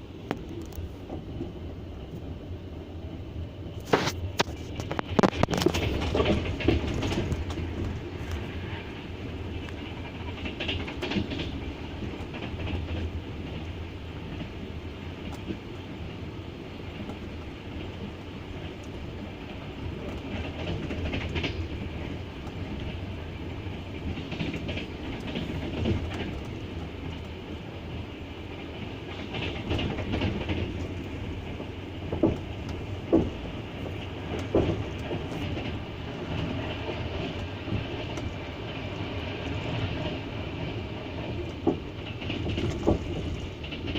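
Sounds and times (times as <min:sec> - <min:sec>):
train rumble: 0:00.0 - 0:43.9
train wheels clattering: 0:03.7 - 0:43.9.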